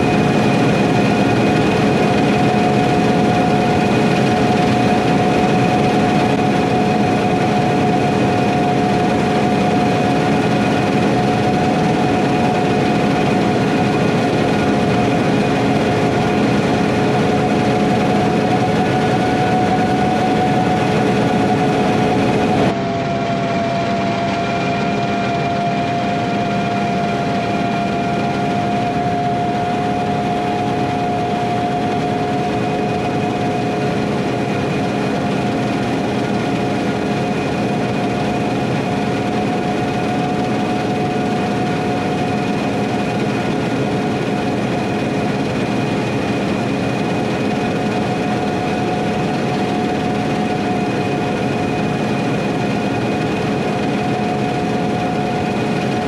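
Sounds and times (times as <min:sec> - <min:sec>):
machinery whining: 0:00.0 - 0:56.0.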